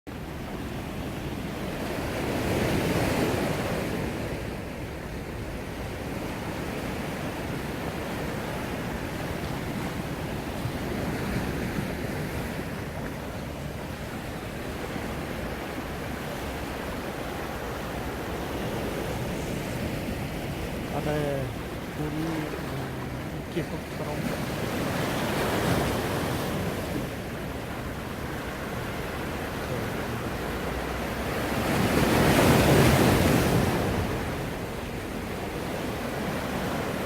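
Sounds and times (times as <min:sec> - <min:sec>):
sea waves washing in: 0:00.1 - 0:37.0.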